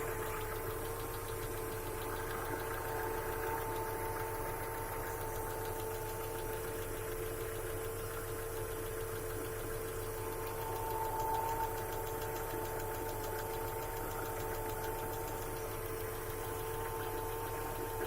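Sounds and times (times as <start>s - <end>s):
car engine idling: 0.0s - 18.0s
fast engine knocking: 0.0s - 18.0s
steady engine whine: 0.0s - 18.0s.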